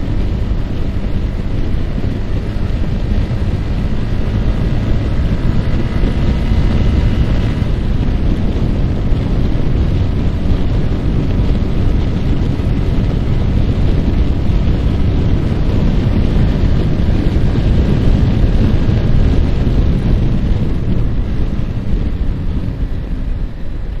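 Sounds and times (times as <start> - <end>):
motorcycle engine cruising: 0.0 - 24.0
wind buffeting microphone: 0.0 - 24.0.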